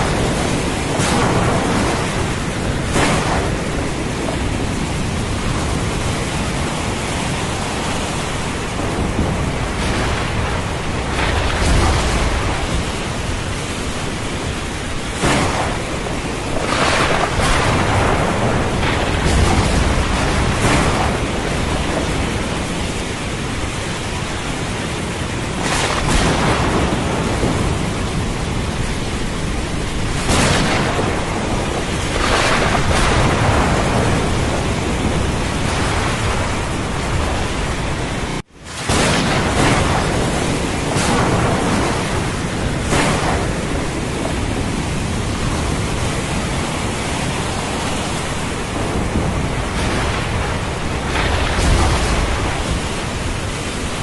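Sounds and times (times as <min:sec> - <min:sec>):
heavy rain: 0:00.0 - 0:54.0
ocean surf: 0:00.0 - 0:54.0
thunder rumbling: 0:00.0 - 0:54.0.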